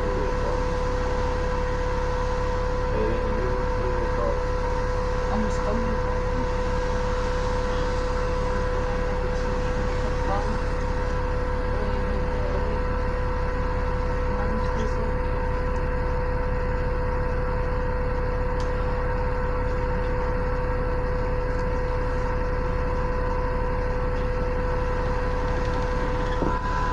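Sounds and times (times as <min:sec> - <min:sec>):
bus engine idling: 0:00.0 - 0:26.9
constant whine: 0:00.0 - 0:26.9.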